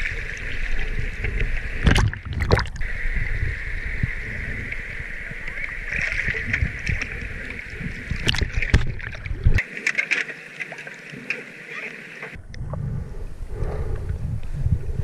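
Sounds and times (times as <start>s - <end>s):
muffled underwater rumble: 0.0s - 10.0s, 11.1s - 15.0s.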